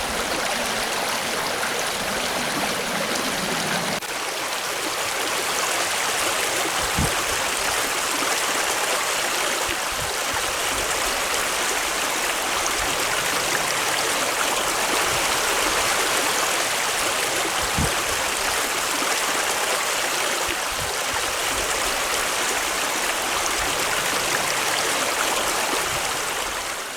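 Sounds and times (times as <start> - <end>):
river rushing and babbling: 0.0 - 26.9.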